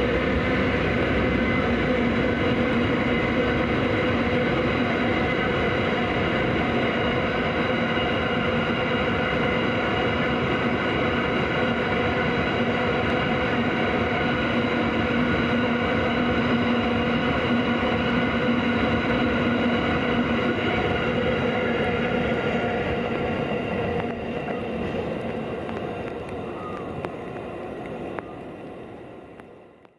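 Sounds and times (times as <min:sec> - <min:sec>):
freight train wheels rumbling on rail: 0:00.0 - 0:29.9.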